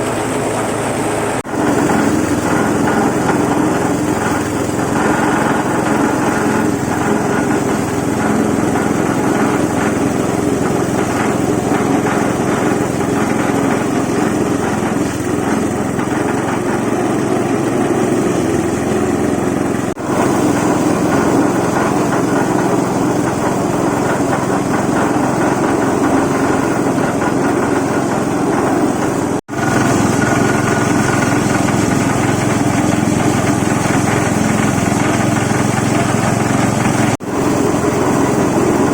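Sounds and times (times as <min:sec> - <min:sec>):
salt grinder motor drone: 0:00.0 - 0:38.9.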